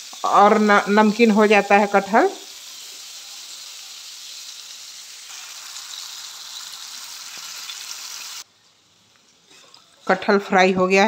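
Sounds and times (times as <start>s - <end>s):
food sizzling in hot oil: 0.0s - 10.2s.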